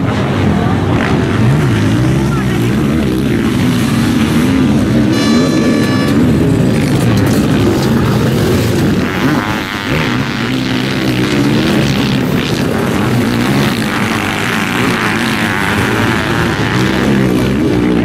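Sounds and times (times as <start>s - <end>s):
racing engines revving: 0.0s - 18.0s.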